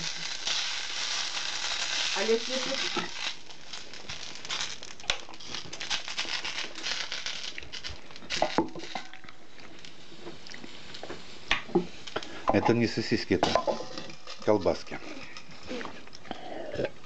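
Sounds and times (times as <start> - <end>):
sausages frying and crackling: 0.0 - 17.0.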